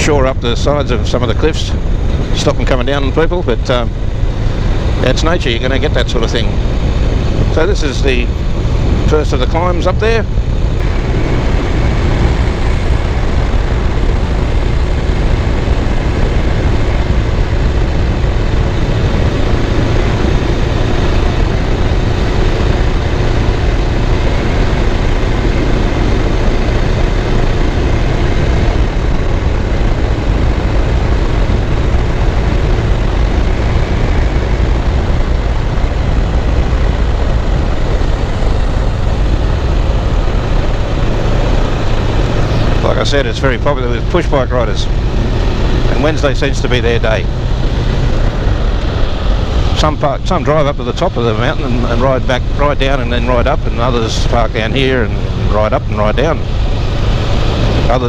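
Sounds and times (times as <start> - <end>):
motorcycle engine running: 0.0 - 58.0
rushing noise: 0.0 - 58.0.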